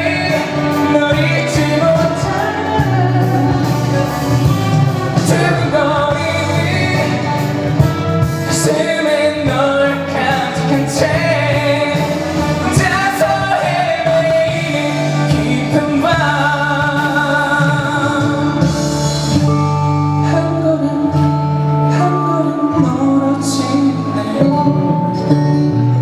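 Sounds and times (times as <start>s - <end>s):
band playing ballad: 0.0s - 26.0s
man singing: 0.0s - 26.0s.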